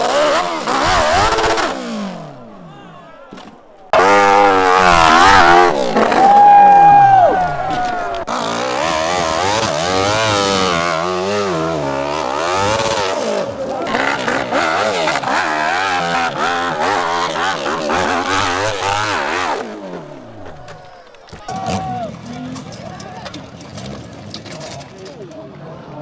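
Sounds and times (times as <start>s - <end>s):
dirt bike engine revving: 0.0s - 22.6s.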